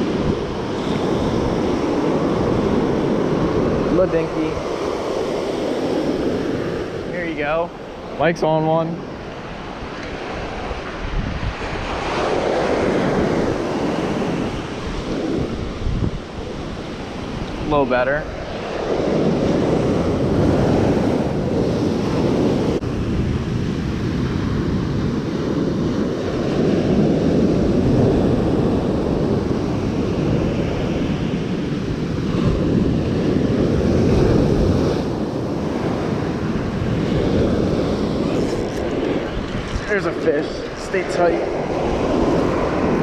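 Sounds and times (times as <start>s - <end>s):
ocean surf on beach: 0.0s - 43.0s
wind on microphone: 0.0s - 43.0s.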